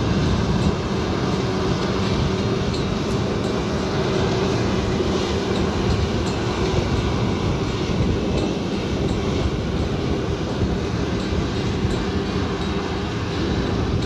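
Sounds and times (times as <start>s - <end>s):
large engine running: 0.0s - 14.0s.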